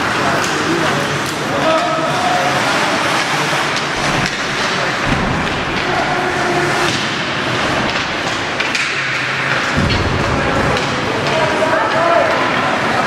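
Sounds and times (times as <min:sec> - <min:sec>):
crowd hubbub: 0:00.0 - 0:13.0.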